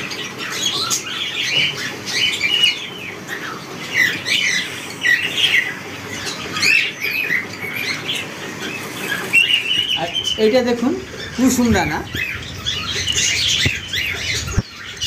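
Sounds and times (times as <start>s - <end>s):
cockatiels chirping and squawking: 0.0s - 15.0s.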